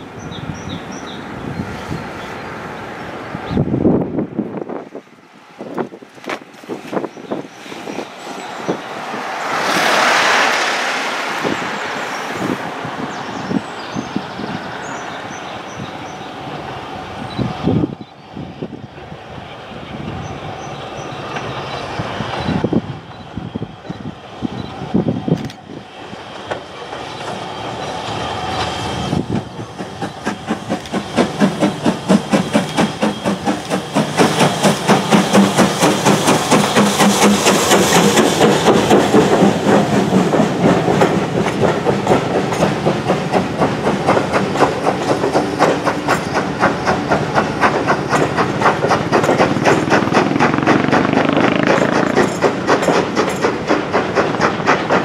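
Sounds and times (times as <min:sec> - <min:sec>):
steam train running past: 0:00.0 - 0:55.0.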